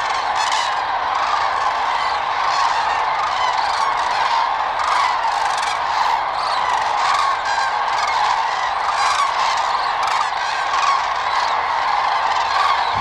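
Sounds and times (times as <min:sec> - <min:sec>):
cranes trumpeting in flight: 0:00.0 - 0:13.0.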